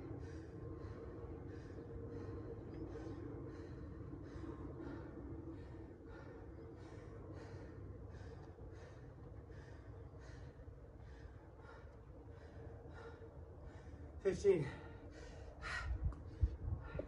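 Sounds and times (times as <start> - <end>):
man breathing hard: 0.0 - 17.0.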